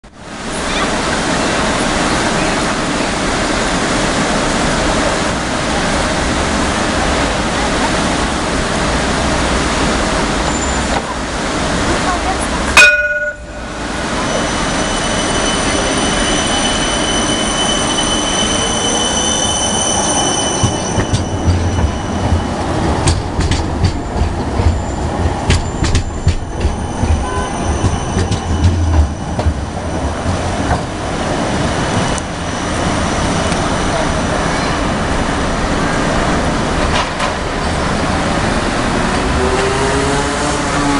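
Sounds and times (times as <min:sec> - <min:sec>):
tram high whine: 0:00.0 - 0:40.9
tram running rumble: 0:00.0 - 0:40.9.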